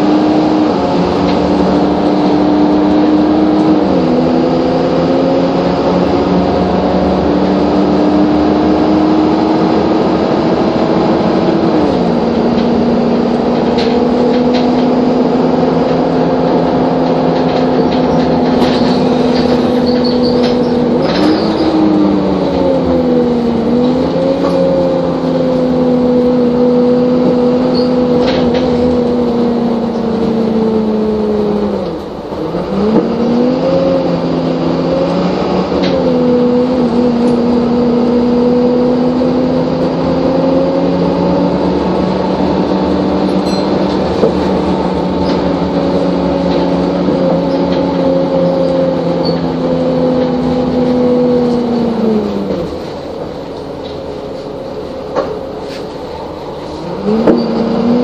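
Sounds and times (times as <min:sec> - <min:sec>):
bus engine whining: 0:00.0 - 0:58.0.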